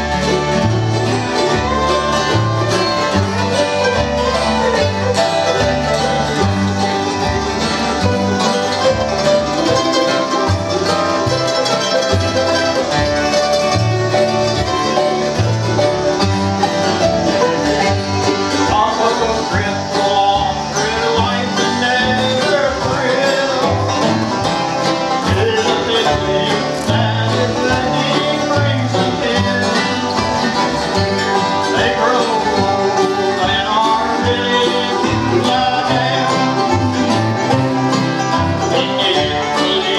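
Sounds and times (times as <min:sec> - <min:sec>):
fiddle: 0:00.0 - 0:39.9
mandolin: 0:00.0 - 0:39.9
strummed acoustic guitars: 0:00.0 - 0:39.9.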